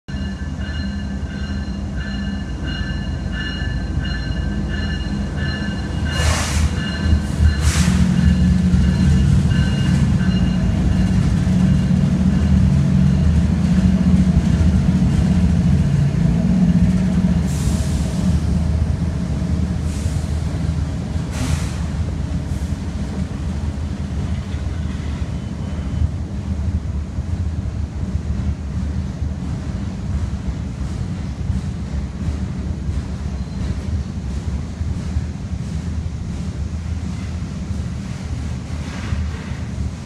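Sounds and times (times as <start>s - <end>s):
diesel locomotive engine rumble: 0.1s - 40.0s.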